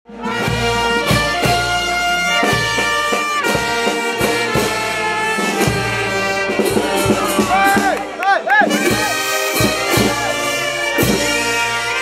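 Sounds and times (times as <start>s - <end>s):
brass instruments in harmony: 0.1s - 12.0s.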